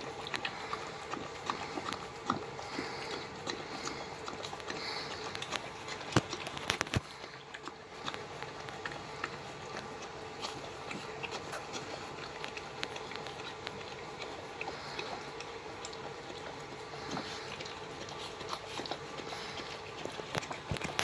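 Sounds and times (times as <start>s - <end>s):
puppies chewing and smacking: 0.0s - 21.0s
steady low hum: 0.0s - 21.0s.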